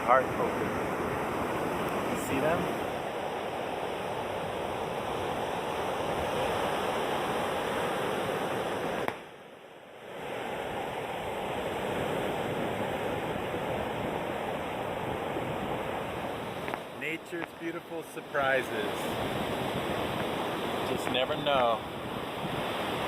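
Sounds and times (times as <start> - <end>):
ocean surf rushing: 0.0 - 23.0.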